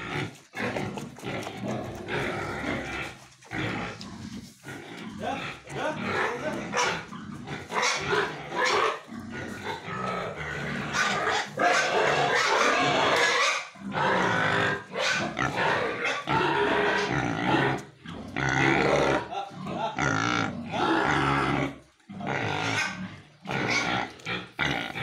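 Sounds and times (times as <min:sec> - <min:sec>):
pigs grunting and squealing: 0:00.0 - 0:25.0.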